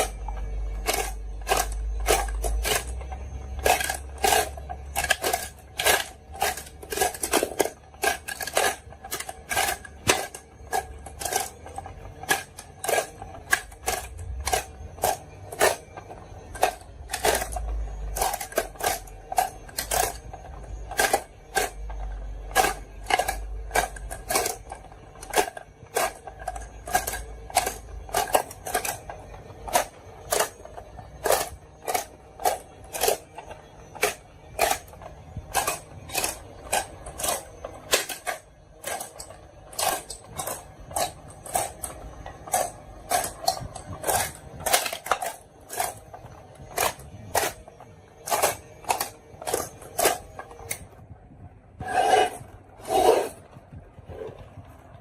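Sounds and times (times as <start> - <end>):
marbles clacking down run: 0.0 - 50.8.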